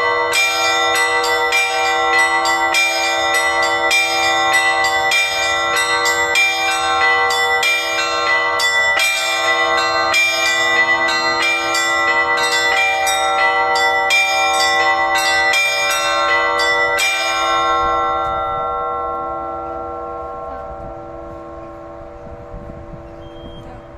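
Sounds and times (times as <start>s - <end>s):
large bells humming: 0.0s - 23.9s.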